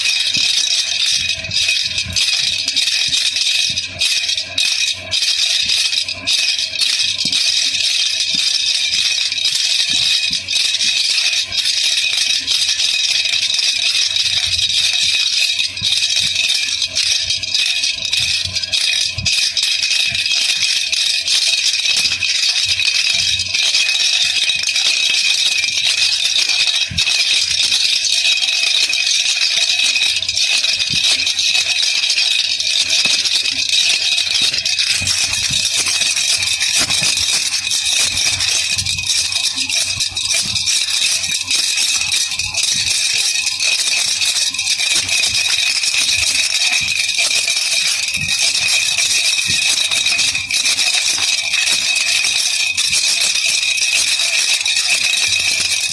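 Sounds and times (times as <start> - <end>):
baby rattle shaking: 0.0 - 55.9.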